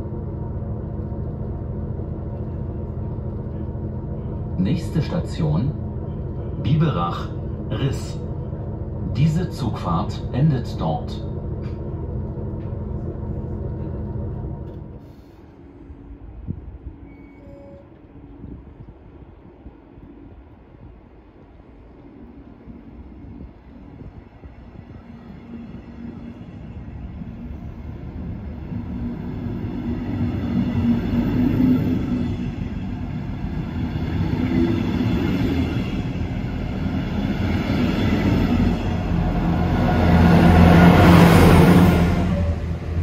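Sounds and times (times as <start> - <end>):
train coaches rolling: 0.0 - 19.3, 21.4 - 43.0
diesel locomotive engines: 0.0 - 43.0.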